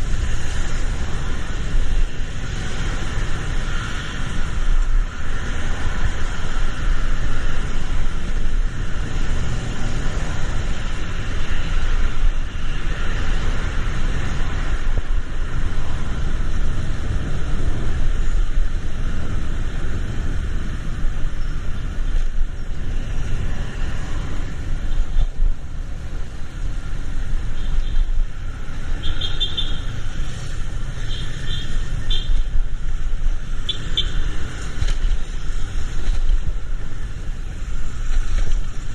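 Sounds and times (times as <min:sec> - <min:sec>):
passing cars rumbling: 0:00.0 - 0:38.9.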